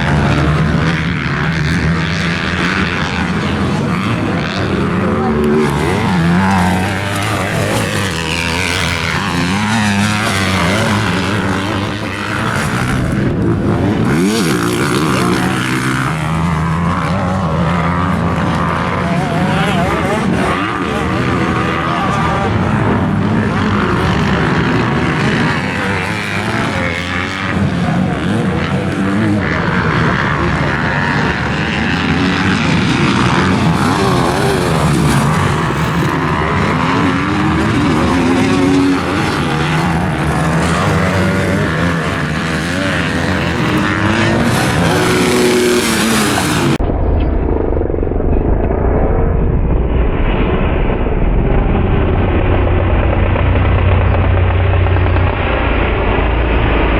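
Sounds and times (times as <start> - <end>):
dirt bike engine revving: 0.0 - 46.9, 50.2 - 56.9.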